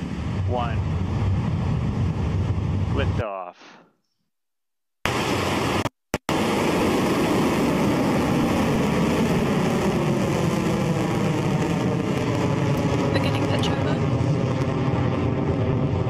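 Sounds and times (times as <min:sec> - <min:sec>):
rocket engines roaring: 0:00.0 - 0:03.8, 0:05.1 - 0:16.0.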